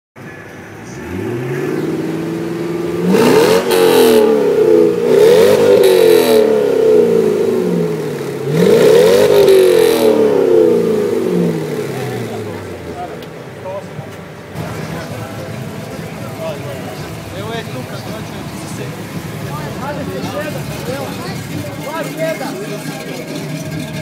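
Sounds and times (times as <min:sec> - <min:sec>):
car engine idling and revving: 0:00.2 - 0:24.0.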